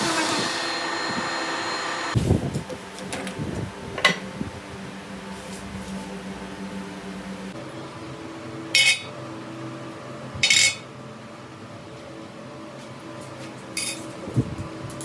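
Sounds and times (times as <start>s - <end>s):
workshop machine hum: 0.0s - 15.0s.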